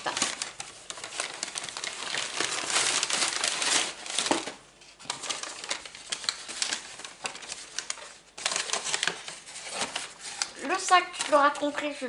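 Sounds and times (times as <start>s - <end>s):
paper bag crinkling: 0.0s - 12.0s
plastic blister pack crackling: 0.0s - 12.0s.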